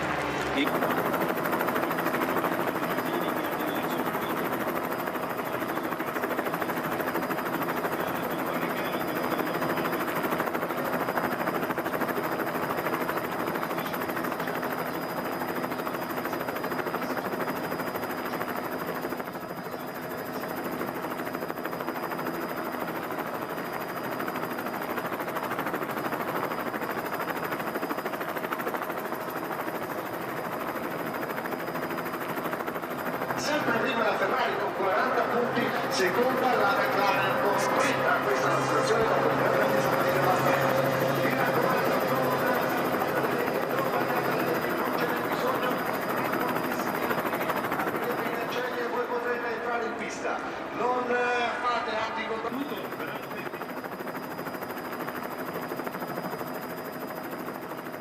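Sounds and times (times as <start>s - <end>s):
helicopter hovering: 0.0s - 58.0s.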